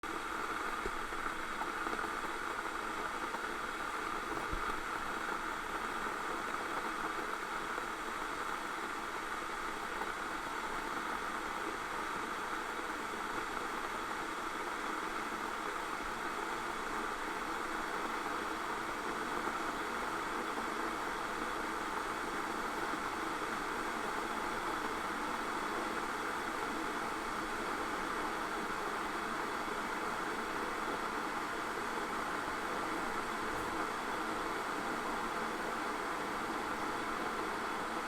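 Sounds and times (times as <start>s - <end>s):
electric kettle hissing: 0.1s - 38.0s.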